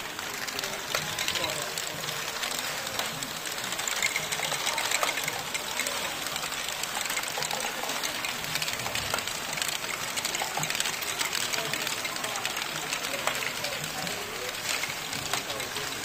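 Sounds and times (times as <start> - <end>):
motors and plastic gears whirring: 0.0 - 16.0
plastic balls clattering: 0.0 - 16.0.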